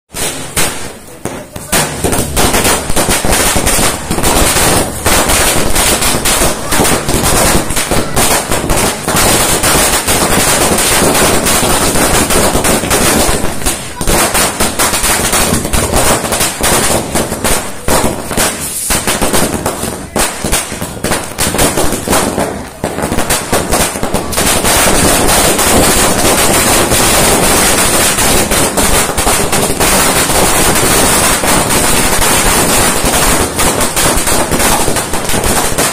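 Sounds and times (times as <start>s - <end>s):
firecrackers exploding: 0.1s - 35.9s.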